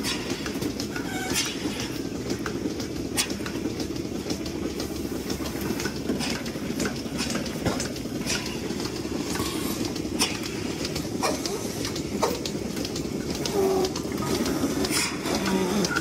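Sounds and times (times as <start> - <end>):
machinery clicks and hisses: 0.0 - 16.0
milking machinery drone: 0.0 - 16.0.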